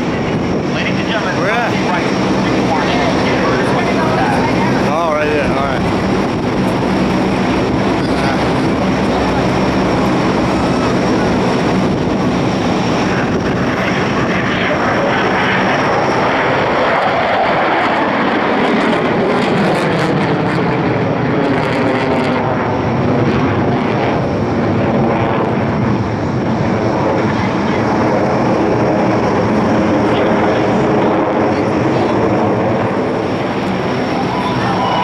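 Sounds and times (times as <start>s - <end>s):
propeller airplane flying past: 0.0s - 35.0s.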